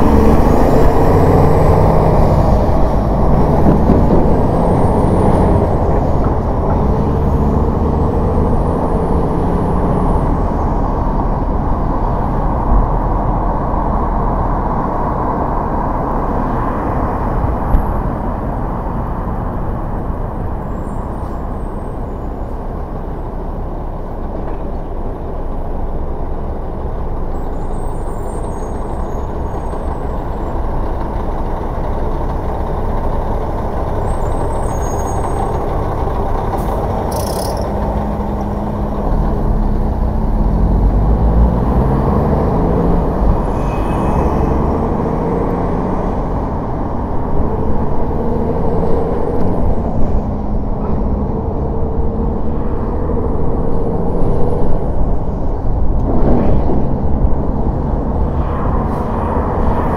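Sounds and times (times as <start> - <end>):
traffic and road noise: 0.0 - 59.9
vehicle engine accelerating: 0.0 - 59.9.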